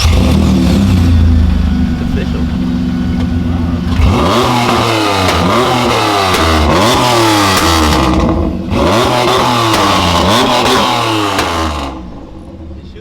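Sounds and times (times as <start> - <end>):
exhaust pops: 0.0 - 12.6
car engine revving: 0.0 - 13.0.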